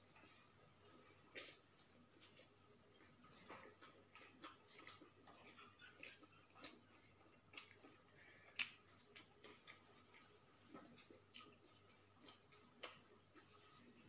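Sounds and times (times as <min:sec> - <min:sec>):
mouths chewing: 0:00.0 - 0:14.0.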